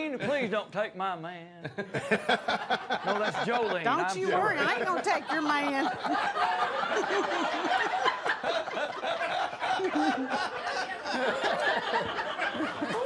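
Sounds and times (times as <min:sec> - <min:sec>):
audience laughing: 0:01.7 - 0:13.0.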